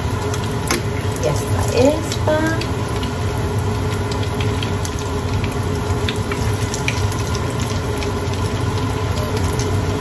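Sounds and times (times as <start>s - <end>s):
cauliflower sizzling in hot oil: 0.0s - 10.0s.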